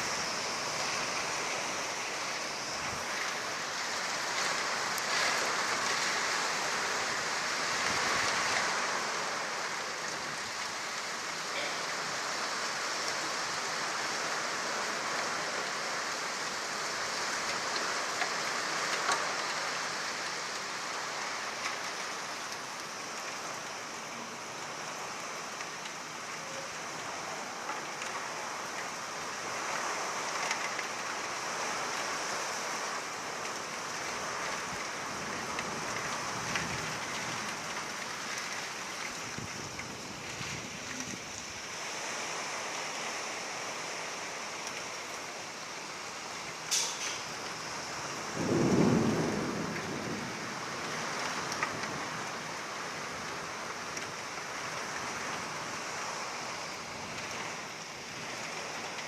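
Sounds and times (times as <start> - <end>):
heavy rain falling: 0.0 - 59.0
sharp raindrops striking nearby: 0.0 - 59.0.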